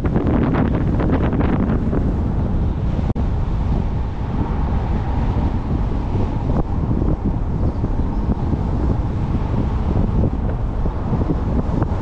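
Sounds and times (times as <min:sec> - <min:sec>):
tyre rumble and road noise: 0:00.0 - 0:12.0
wind buffeting microphone: 0:00.0 - 0:12.0.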